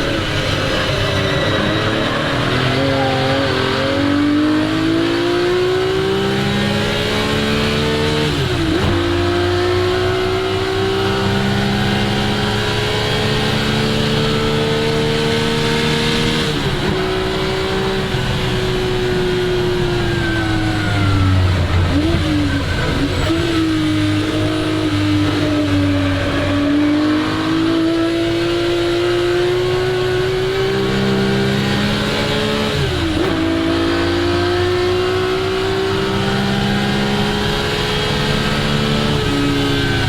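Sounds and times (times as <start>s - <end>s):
sports car engine accelerating: 0.0s - 40.0s.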